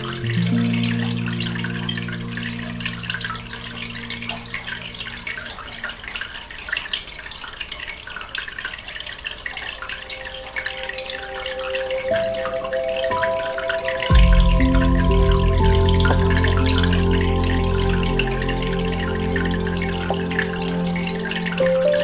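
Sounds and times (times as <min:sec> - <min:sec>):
soft ambient music: 0:00.0 - 0:06.7, 0:09.5 - 0:22.0
aquarium water bubbling: 0:00.0 - 0:22.0.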